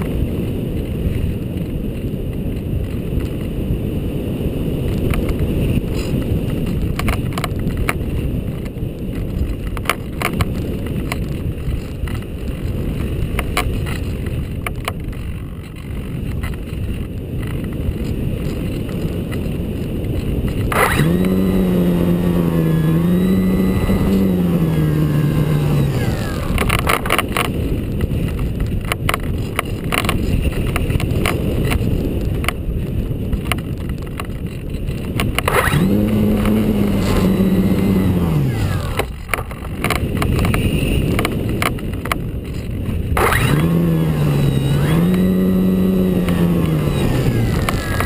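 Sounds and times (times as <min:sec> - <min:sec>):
electric motor and propeller hum: 0:00.0 - 0:48.0
wind rushing over camera: 0:00.0 - 0:48.0.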